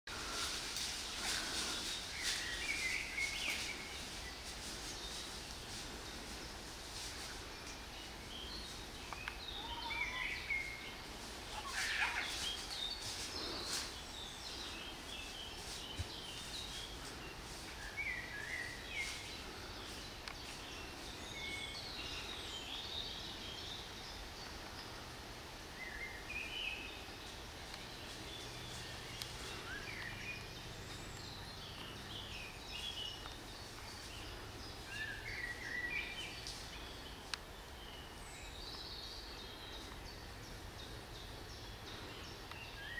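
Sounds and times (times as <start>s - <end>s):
songbirds singing and chirping: 0.1s - 42.9s
steady background hiss: 0.1s - 42.9s.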